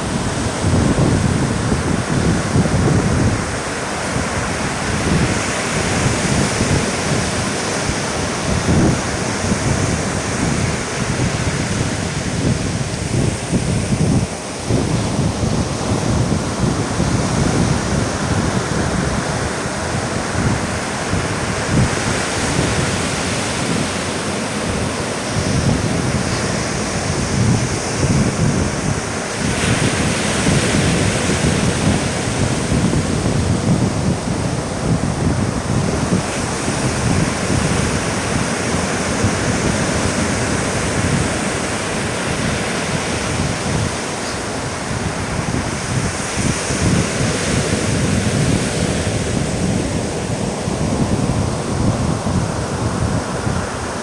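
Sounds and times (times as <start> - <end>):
surf washing on beach: 0.0 - 54.0
wind buffeting microphone: 0.0 - 54.0.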